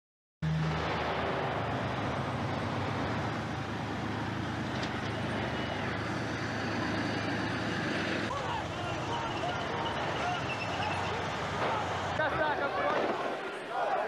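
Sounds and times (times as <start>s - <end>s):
street noise: 0.4s - 14.0s
vehicle engines rumbling: 0.4s - 14.0s.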